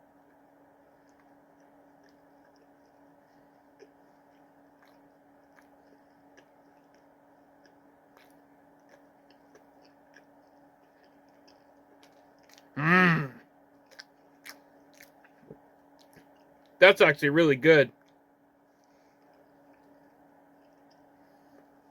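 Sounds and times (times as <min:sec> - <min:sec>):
low steady hum: 0:00.0 - 0:21.9
chewing with soft mouth clicks: 0:00.1 - 0:12.8, 0:13.4 - 0:16.8, 0:17.9 - 0:21.9.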